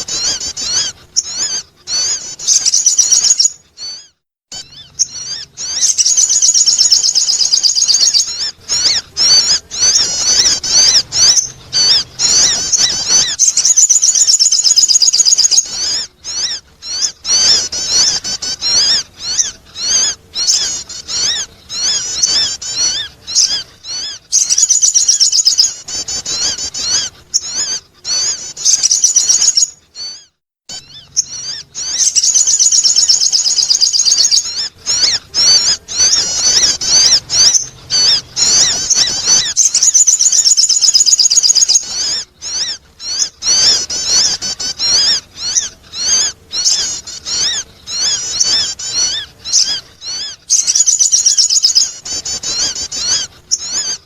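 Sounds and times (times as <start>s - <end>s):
high-pitched warbling bird chirps: 0.0s - 54.0s.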